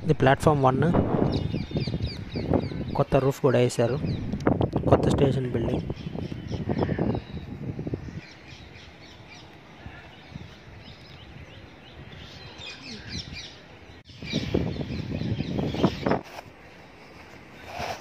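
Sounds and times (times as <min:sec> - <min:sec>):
small birds chirping: 0:01.2 - 0:04.6, 0:05.3 - 0:18.0.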